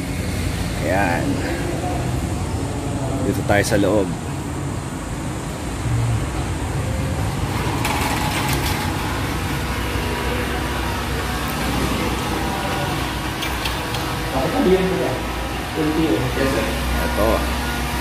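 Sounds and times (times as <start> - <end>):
traffic rumble: 0.0 - 18.0
ventilation rumble: 0.0 - 18.0.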